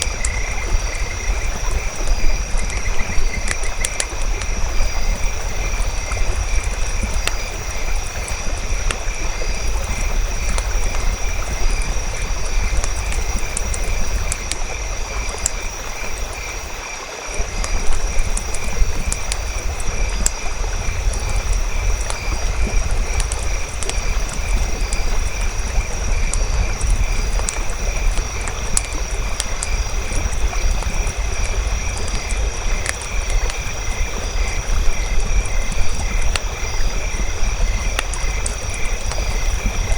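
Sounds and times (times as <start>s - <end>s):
campfire crackling and popping: 0.0s - 39.9s
frogs and insects chorus: 0.0s - 39.9s.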